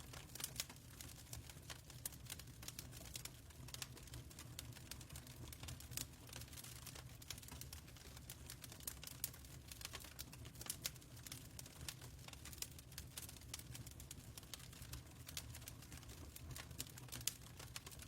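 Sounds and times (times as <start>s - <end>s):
fireplace crackling: 0.0s - 18.0s.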